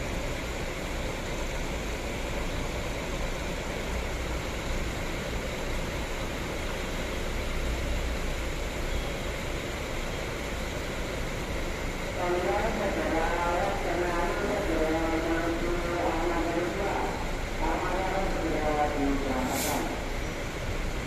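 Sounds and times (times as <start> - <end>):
diesel bus engine running: 0.0 - 21.0.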